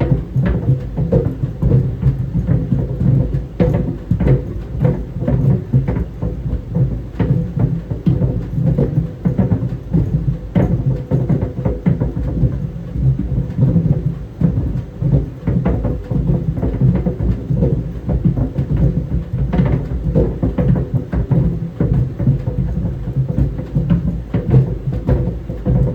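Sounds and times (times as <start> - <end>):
clothes dryer rumbling: 0.0 - 25.9.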